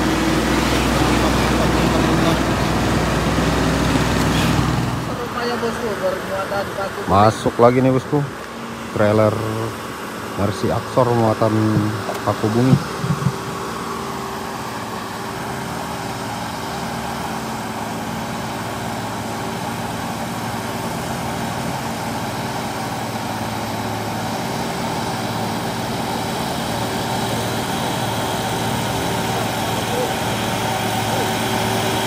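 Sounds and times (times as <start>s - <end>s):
truck diesel engine under load: 0.0s - 32.0s.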